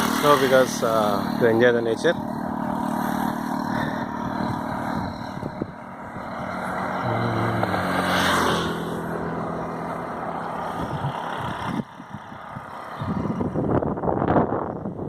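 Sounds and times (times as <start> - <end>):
road and air noise: 0.0 - 15.0
vehicle engine running: 0.0 - 15.0.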